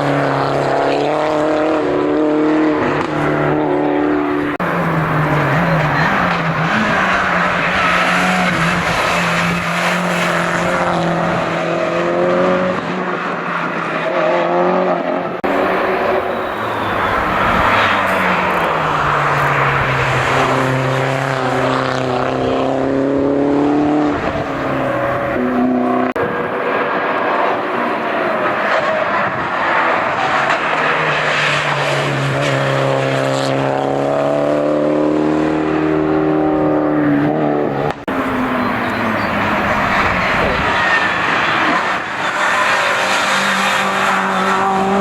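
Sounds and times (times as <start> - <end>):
race car engine revving hard: 0.0 - 45.0.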